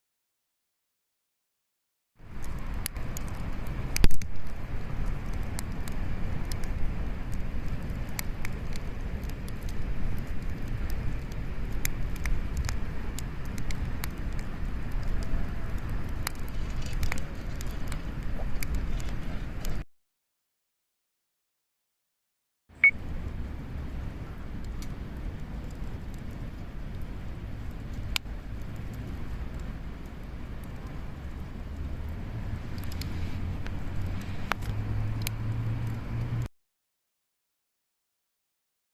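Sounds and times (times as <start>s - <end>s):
bonfire crackling and popping: 2.2s - 19.8s, 22.8s - 36.5s.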